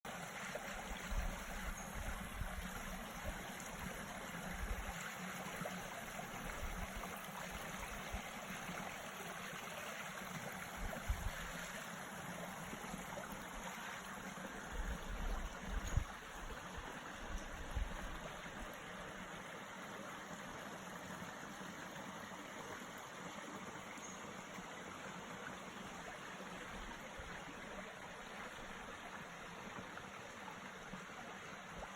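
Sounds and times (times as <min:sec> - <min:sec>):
creek flowing over rocks: 0:00.1 - 0:31.9.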